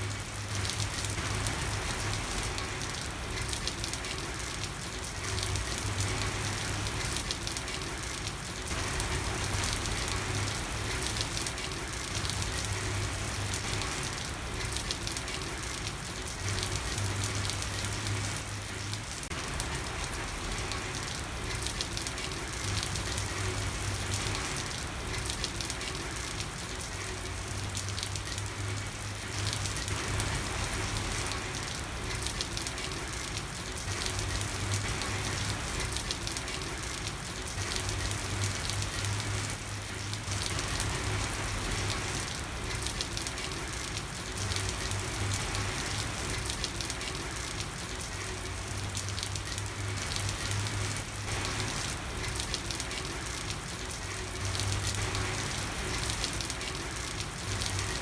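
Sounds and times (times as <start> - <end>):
rain falling on a street: 0.0 - 58.0.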